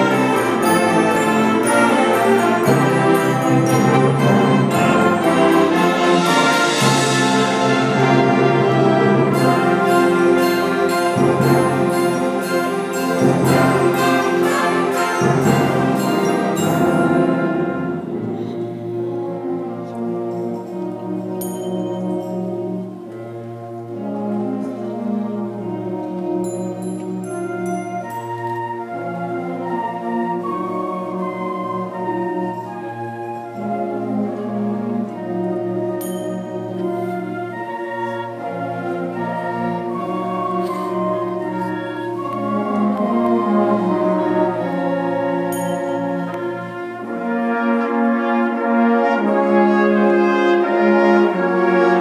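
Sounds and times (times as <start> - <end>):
symphonic band playing: 0.0 - 52.0.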